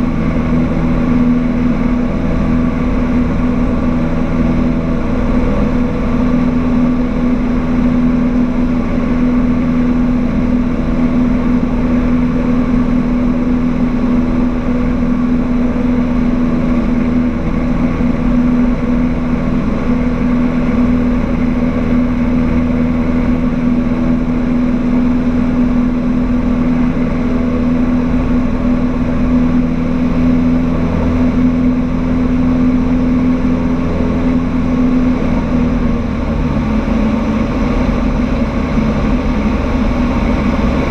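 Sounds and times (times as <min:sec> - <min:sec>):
small airplane engine drone: 0:00.0 - 0:40.9.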